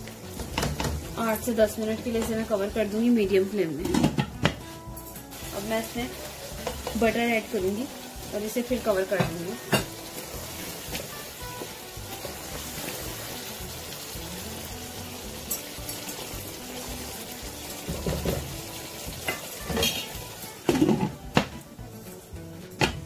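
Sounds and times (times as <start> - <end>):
curry sizzling in a pan: 0.0 - 23.0.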